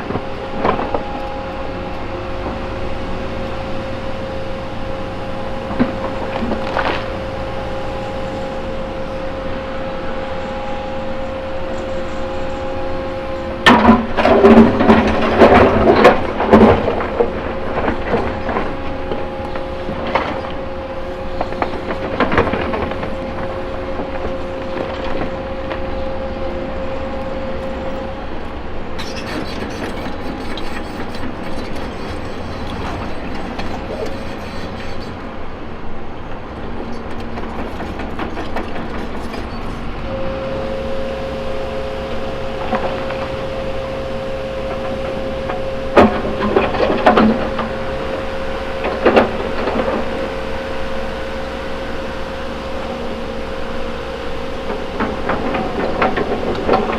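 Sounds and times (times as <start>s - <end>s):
excavator engine and hydraulics whine: 0.0s - 56.9s.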